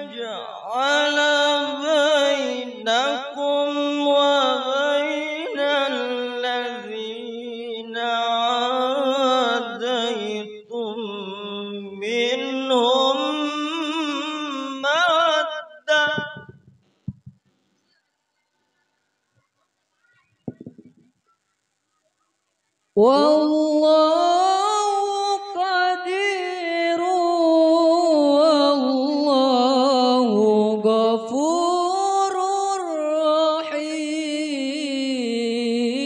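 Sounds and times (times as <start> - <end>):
man reciting melodically: 0.0 - 16.6, 23.0 - 36.0.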